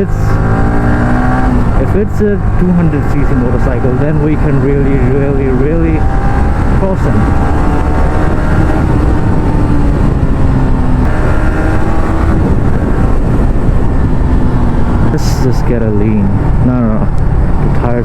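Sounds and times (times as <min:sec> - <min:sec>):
motorcycle engine cruising: 0:00.0 - 0:18.0
wind rush: 0:00.0 - 0:18.0.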